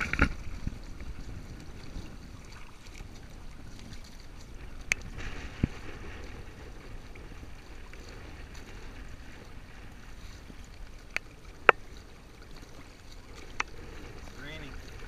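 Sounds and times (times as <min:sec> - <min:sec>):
water washing along a hull: 0:00.0 - 0:15.0.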